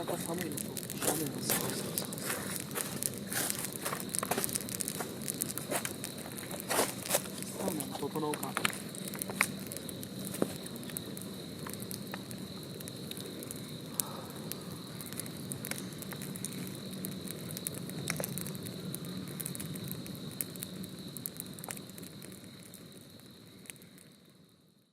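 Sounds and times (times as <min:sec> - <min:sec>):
bonfire crackling and popping: 0:00.0 - 0:24.8.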